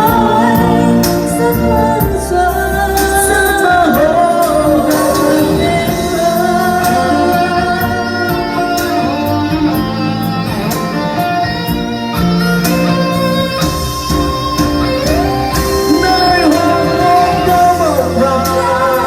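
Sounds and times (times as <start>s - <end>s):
guitar melody: 0.0s - 19.0s
live band playing pop music: 0.0s - 19.0s
steady drum beat: 0.0s - 19.0s.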